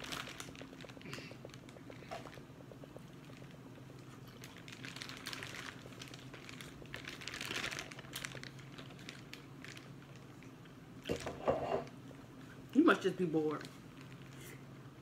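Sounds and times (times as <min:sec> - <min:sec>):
plastic bag crinkling: 0:00.0 - 0:12.0, 0:12.8 - 0:14.5.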